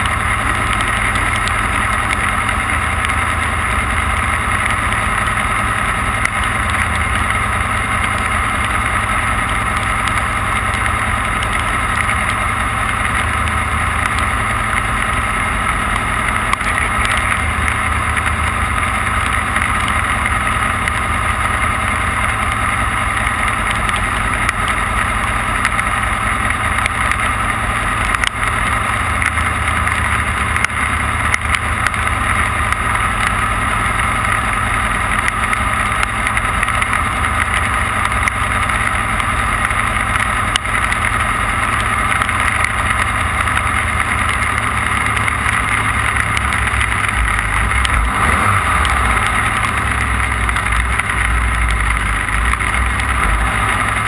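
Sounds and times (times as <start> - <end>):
vehicle engine drone: 0.0 - 54.0.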